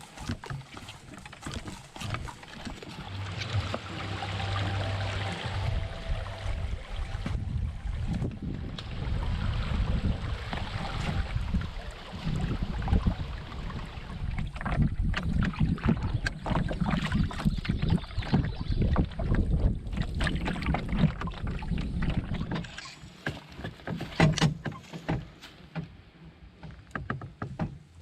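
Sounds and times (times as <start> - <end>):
wind rumbling on microphone: 0.0 - 23.0
paddles splashing in water: 0.0 - 28.0.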